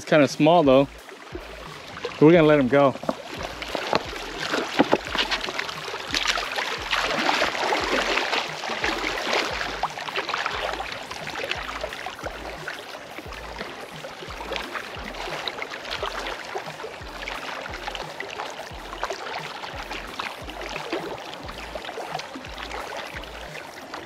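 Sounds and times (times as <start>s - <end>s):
small waves lapping on rocks: 0.0s - 24.0s.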